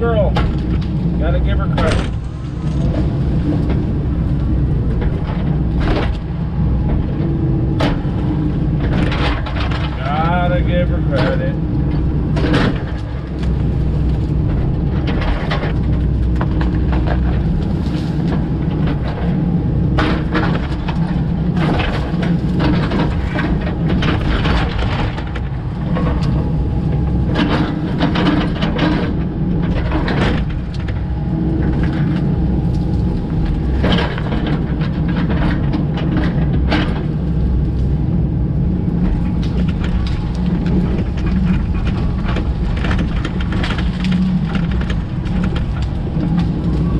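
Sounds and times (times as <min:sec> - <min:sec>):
excavator diesel engine running: 0:00.0 - 0:46.9
wood cracking and snapping: 0:00.0 - 0:46.9.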